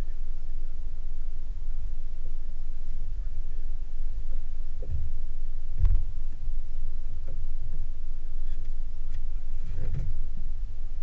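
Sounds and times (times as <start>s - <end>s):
boat motor rumble: 0.0s - 11.0s.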